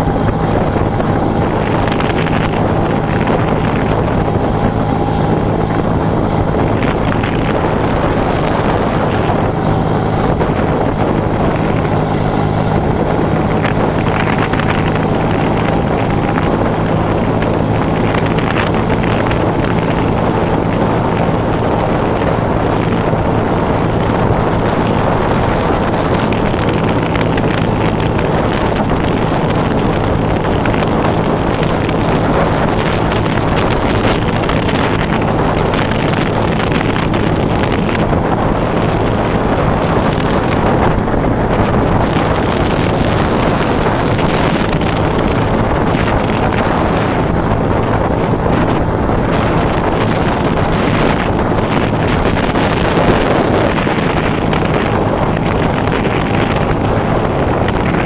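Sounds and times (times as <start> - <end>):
scooter engine running: 0.0 - 58.0
wind buffeting microphone: 0.0 - 58.0.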